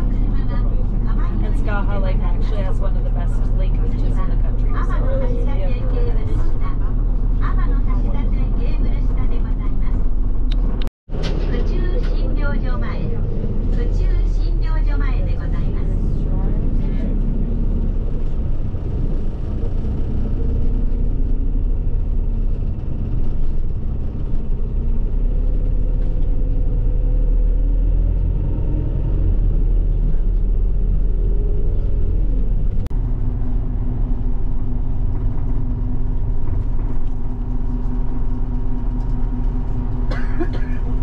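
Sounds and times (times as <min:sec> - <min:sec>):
bus engine: 0:00.0 - 0:41.0
road rumble: 0:00.0 - 0:41.0.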